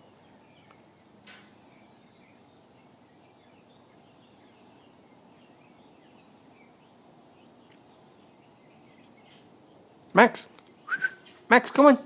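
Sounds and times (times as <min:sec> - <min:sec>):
birds chirping: 0:00.0 - 0:12.0
low outdoor noise: 0:00.0 - 0:12.0.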